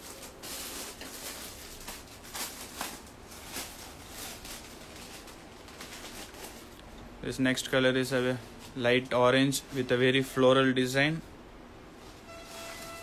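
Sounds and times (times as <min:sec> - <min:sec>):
fabric and cellophane rustling: 0:00.0 - 0:11.2, 0:11.9 - 0:13.0.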